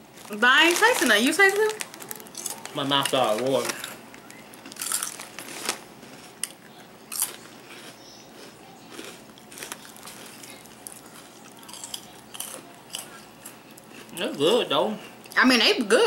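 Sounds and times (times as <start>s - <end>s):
chewing crunchy snacks: 0.2s - 14.2s.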